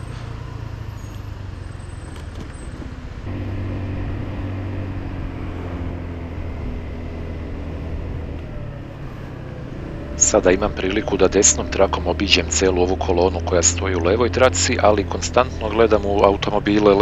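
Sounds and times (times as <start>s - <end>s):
road noise: 0.0s - 17.0s
scooter engine running: 3.3s - 17.0s.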